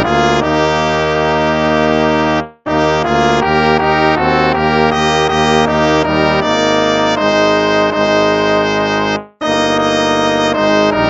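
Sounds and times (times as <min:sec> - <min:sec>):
brass playing a hymn: 0:00.0 - 0:11.0.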